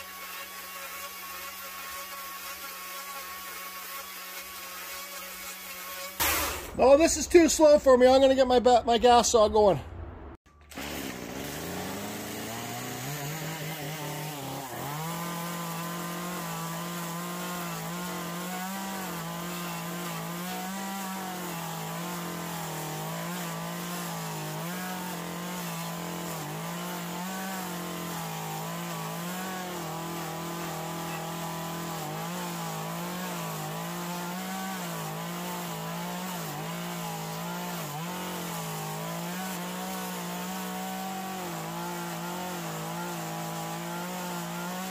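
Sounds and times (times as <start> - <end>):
chainsaw cutting wood: 0.0 - 6.8, 10.5 - 44.9.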